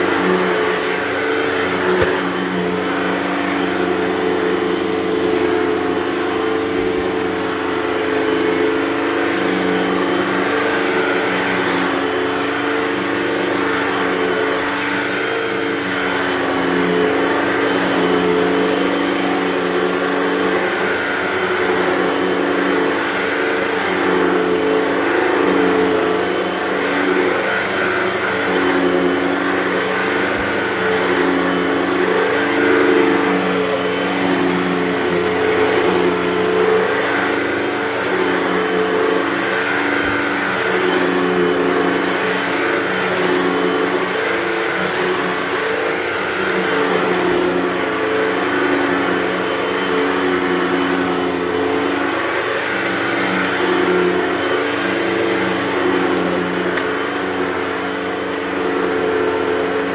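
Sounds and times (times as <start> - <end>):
upright vacuum cleaner running: 0.0 - 59.9.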